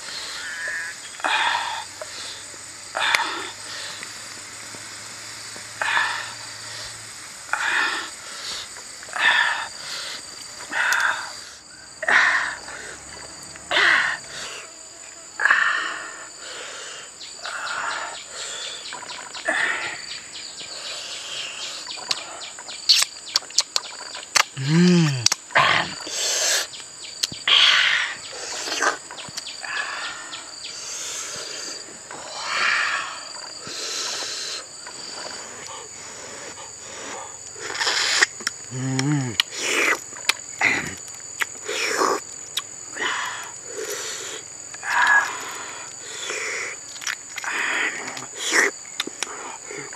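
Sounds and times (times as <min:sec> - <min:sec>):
high drone of insects: 0:00.0 - 0:49.9.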